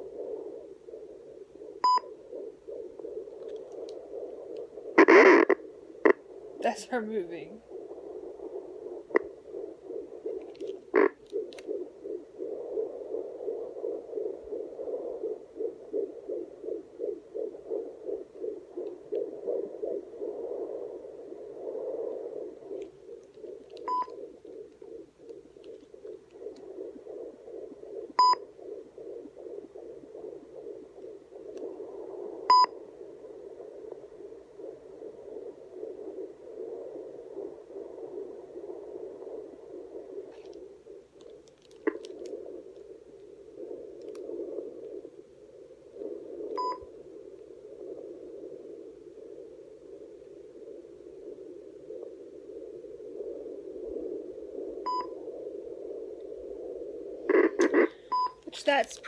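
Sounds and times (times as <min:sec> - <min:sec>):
fast heartbeat pulse: 0:00.0 - 0:59.0.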